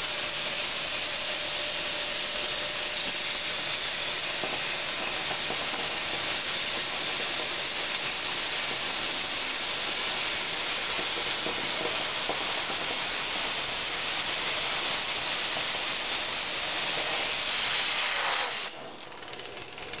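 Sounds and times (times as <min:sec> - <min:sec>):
cutting torch hissing: 0:00.0 - 0:20.0.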